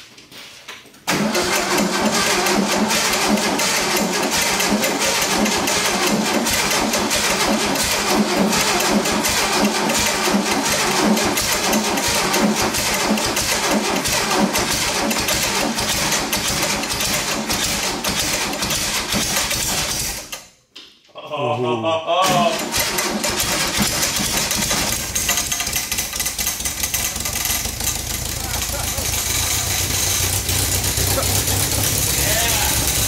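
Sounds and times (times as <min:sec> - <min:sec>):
car engine running: 0:01.1 - 0:20.1, 0:22.3 - 0:33.0.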